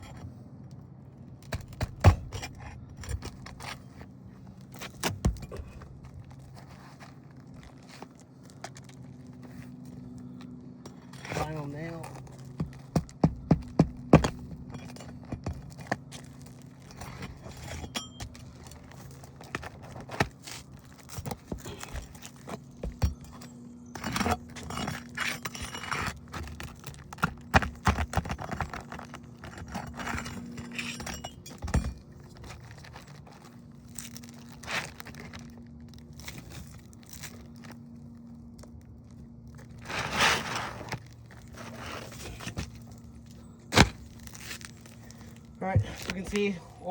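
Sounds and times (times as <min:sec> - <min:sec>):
clicks and scraping of shingle: 0:00.0 - 0:46.9.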